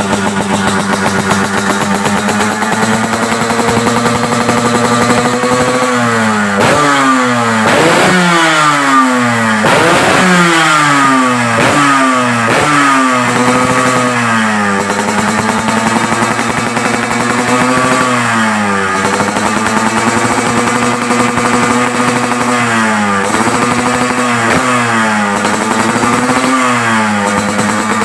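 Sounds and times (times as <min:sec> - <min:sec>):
motorcycle engine idling: 0:00.0 - 0:28.0
two-stroke motorcycle engine revving: 0:00.0 - 0:28.0.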